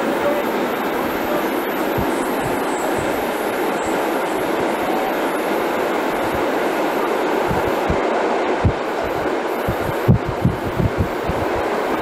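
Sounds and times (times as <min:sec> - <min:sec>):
train wheels rumbling on track: 0:01.0 - 0:12.0.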